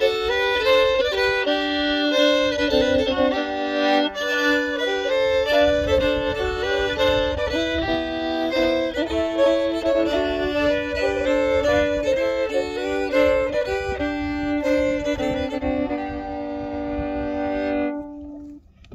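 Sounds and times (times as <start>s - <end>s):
solo fiddle melody: 0.0s - 18.9s.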